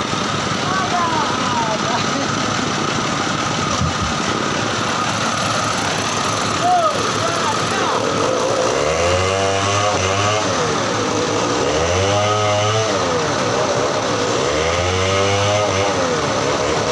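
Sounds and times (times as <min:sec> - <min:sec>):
engine revving: 0:00.0 - 0:16.9.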